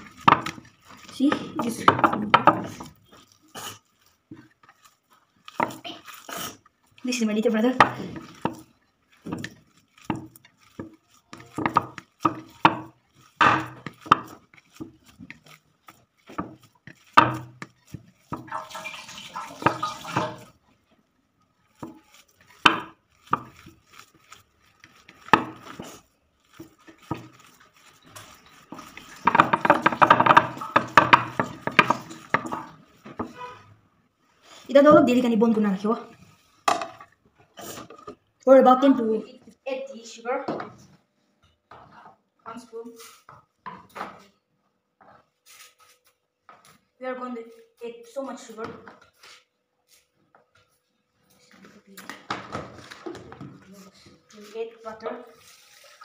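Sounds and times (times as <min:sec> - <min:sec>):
hands rubbing dough: 0:00.0 - 0:39.1, 0:45.0 - 0:52.1, 0:52.8 - 0:56.0.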